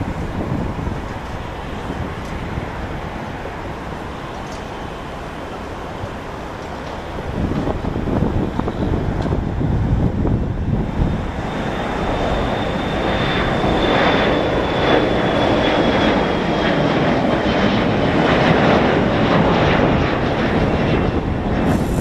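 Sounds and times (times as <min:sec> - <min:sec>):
high fan whine: 0:00.0 - 0:22.0
jet engine roar at takeoff: 0:00.0 - 0:22.0.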